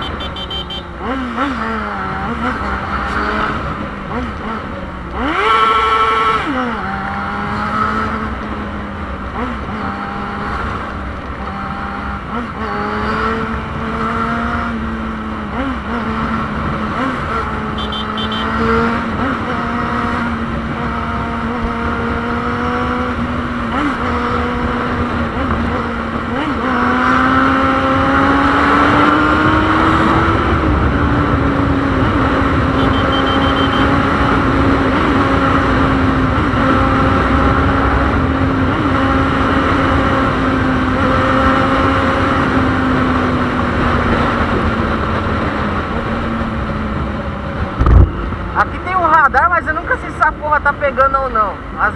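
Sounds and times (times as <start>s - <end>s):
motorcycle engine running: 0.0s - 28.1s, 29.0s - 48.6s
wind and road rush: 0.0s - 51.9s.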